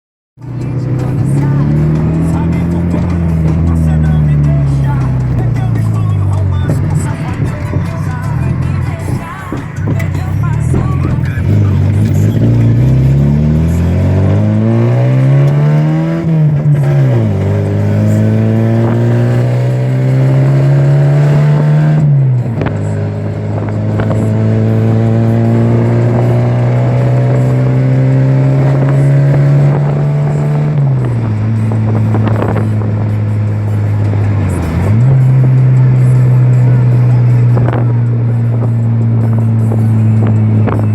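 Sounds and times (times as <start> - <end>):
engine revving: 0.4 - 40.9.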